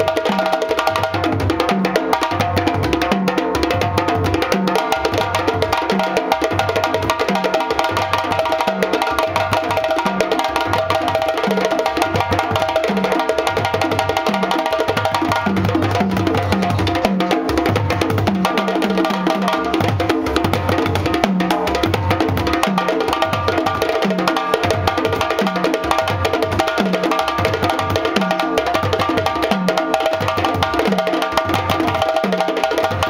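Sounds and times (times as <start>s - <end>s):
hand drums slapped: 0.0s - 33.0s.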